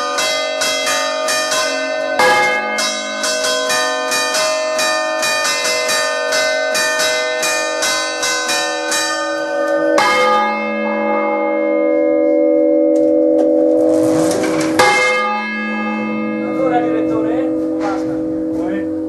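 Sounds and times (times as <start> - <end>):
church bells ringing: 0.0 - 19.0
heavy bell stroke: 0.0 - 19.0.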